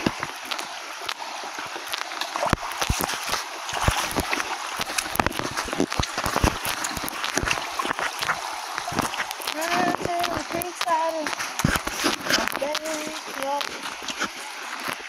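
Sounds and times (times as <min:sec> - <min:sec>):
creek water over rocks: 0:00.0 - 0:15.0
footsteps on rock: 0:01.8 - 0:15.0.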